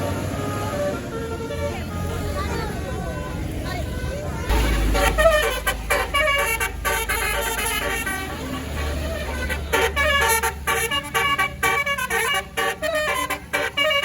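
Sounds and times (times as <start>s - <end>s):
bus engine rumble: 0.0s - 14.0s
musical bus horn melody: 0.0s - 14.0s.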